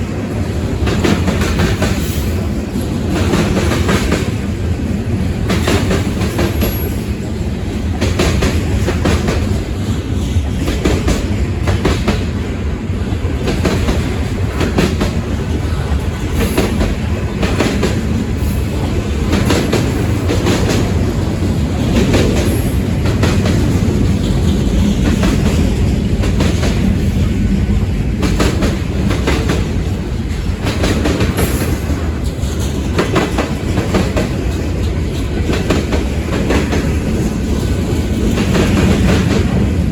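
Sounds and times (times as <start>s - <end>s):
train rumble: 0.0s - 39.9s
train wheels clacking on rails: 0.0s - 39.9s.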